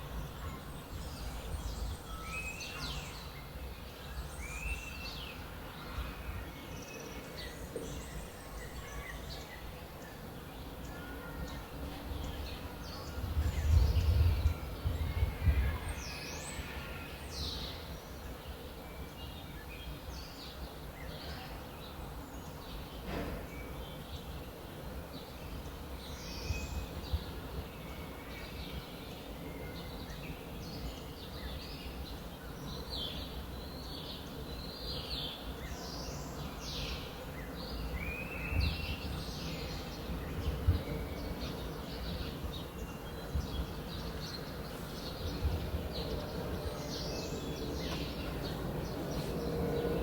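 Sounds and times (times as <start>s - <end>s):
songbirds chirping and singing: 0.0s - 50.0s.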